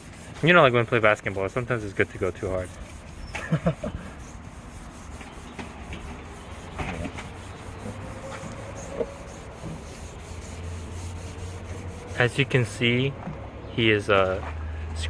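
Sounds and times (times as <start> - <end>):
sandpaper rubbing on surface: 0.0 - 12.8.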